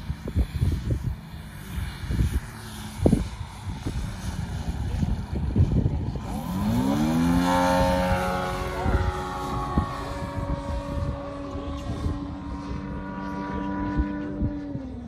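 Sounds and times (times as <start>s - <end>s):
model plane engine revving: 0.0s - 15.0s.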